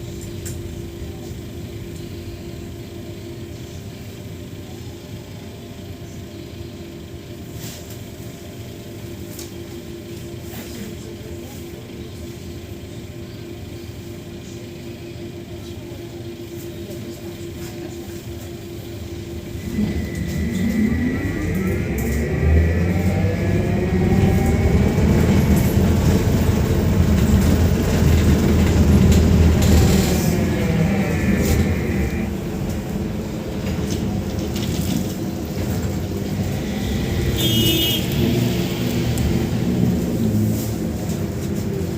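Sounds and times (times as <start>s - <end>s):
trolleybus interior rumble and hum: 0.0s - 41.9s.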